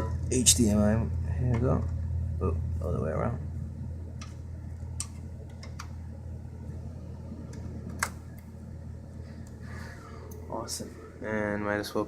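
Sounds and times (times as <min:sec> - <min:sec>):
computer fans humming: 0:00.0 - 0:12.0.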